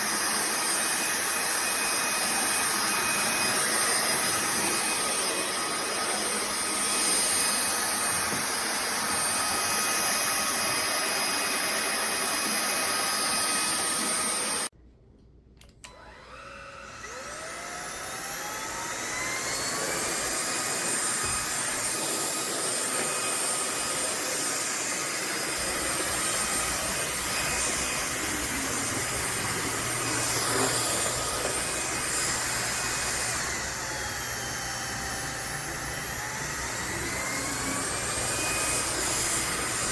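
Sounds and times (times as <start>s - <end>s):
stick vacuum motor whining: 0.0s - 14.7s, 15.8s - 39.9s.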